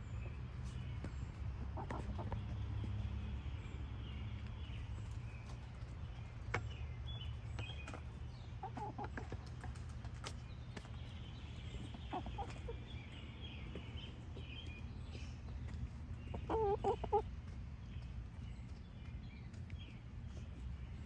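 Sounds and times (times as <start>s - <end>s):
hens clucking: 0.6s - 21.0s.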